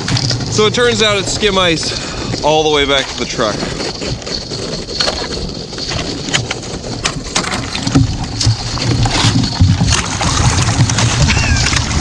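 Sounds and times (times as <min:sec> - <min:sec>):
ice cracking against kayak: 0:00.0 - 0:12.0.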